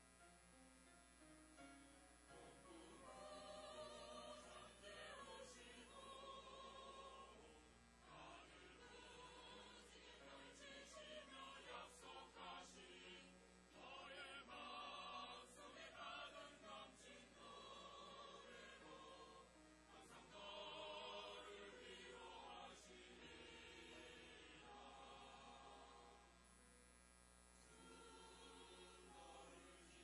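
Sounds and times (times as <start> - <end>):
choir singing a hymn: 2.6 - 26.3, 27.6 - 30.0.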